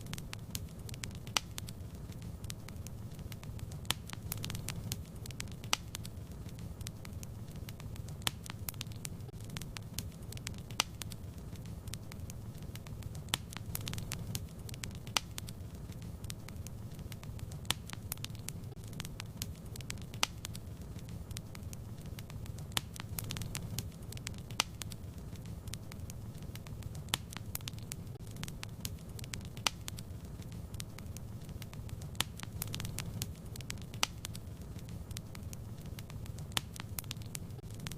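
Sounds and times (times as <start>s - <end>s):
fire crackling and popping: 0.0s - 37.9s
low rumble of flames: 0.0s - 37.9s.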